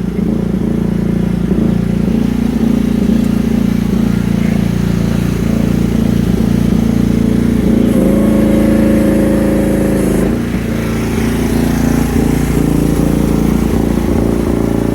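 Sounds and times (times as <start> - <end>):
excavator engine running: 0.0 - 14.9.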